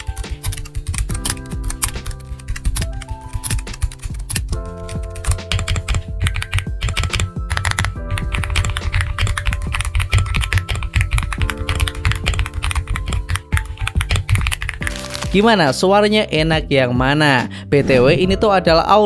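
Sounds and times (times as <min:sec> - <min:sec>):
mechanical keyboard typing: 0:00.0 - 0:15.8
background music: 0:00.0 - 0:19.0.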